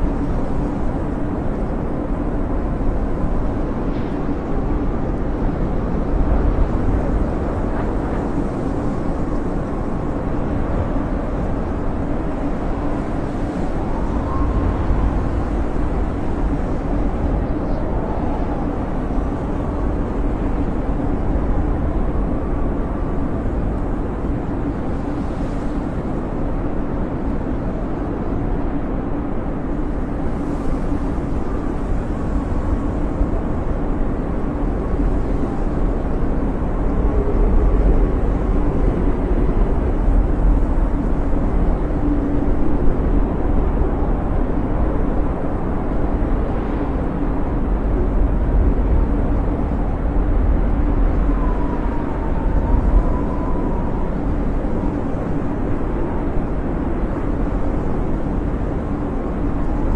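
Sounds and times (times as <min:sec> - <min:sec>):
wind howling: 0:00.0 - 0:59.9.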